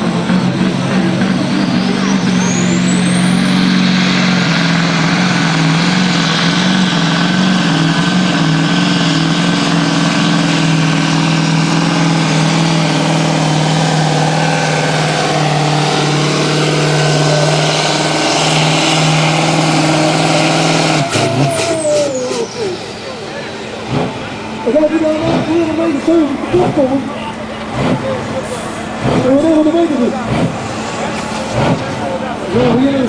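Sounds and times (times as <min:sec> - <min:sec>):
diesel truck engine at high revs: 0:00.0 - 0:33.0.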